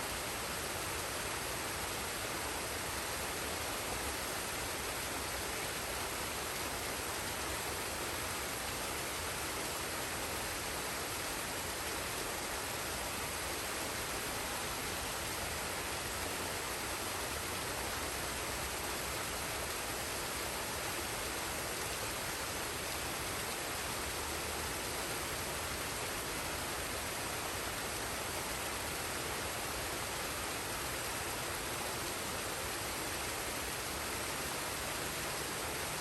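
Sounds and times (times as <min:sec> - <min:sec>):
waterfall and stream rushing: 0:00.0 - 0:36.0.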